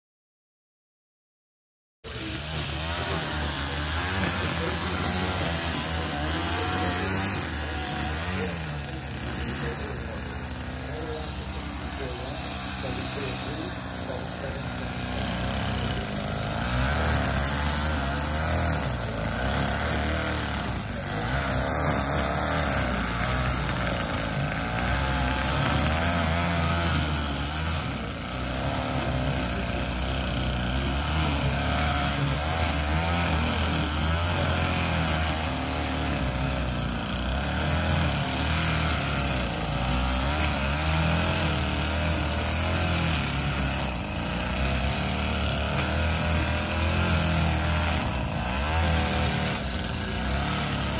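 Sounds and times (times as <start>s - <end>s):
string trimmer cutting grass: 2.1s - 50.9s.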